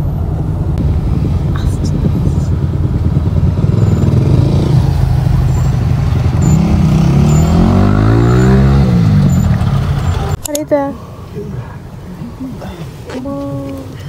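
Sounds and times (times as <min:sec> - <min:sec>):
car engine: 0:00.0 - 0:14.0
road noise: 0:00.0 - 0:14.0.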